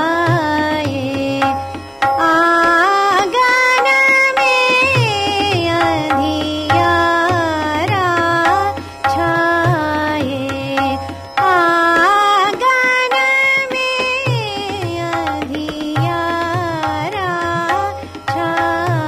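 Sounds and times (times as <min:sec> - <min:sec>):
tabla strokes: 0:00.0 - 0:19.0.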